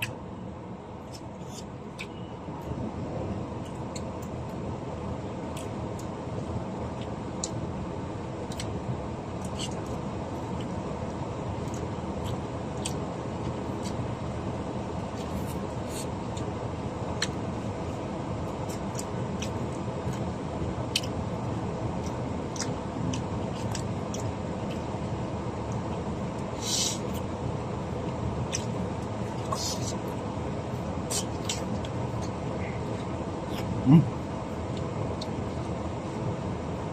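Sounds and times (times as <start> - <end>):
low rumble in vehicle cabin: 0.0 - 36.9.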